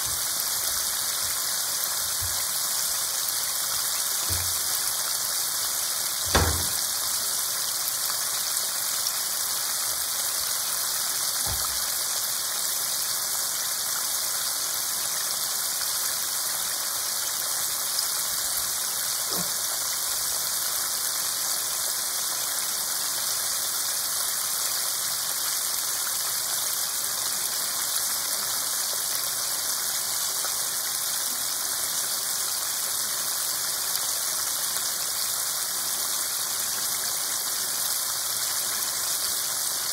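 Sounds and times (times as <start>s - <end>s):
oil sizzling and crackling: 0.0s - 39.9s.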